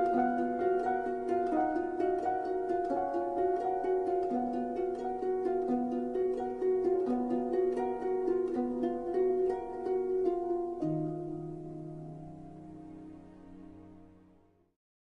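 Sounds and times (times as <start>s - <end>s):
gentle harp-like melody: 0.0s - 14.5s.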